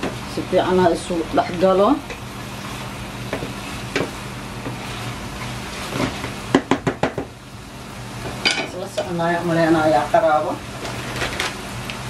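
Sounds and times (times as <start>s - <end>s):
chicken and mushrooms sizzling: 0.0s - 12.0s.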